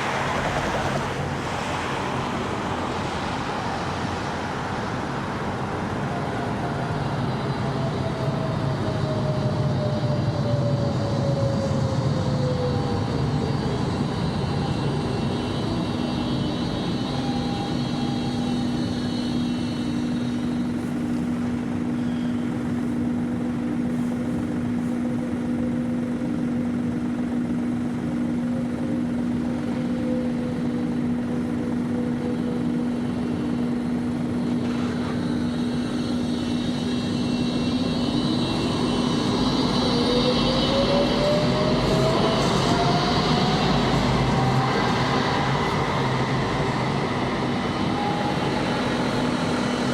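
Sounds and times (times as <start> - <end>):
electric tram drive whining: 0.0 - 49.9
faint high whine: 0.0 - 49.9.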